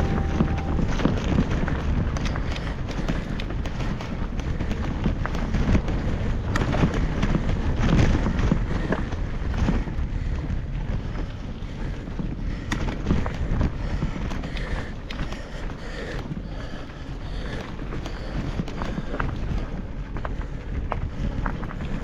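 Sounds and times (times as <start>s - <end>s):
continuous rumble: 0.0s - 22.0s.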